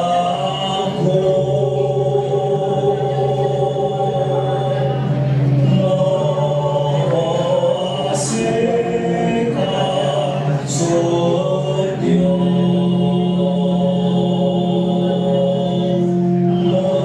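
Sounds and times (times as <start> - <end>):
chant-like singing: 0.0 - 17.0.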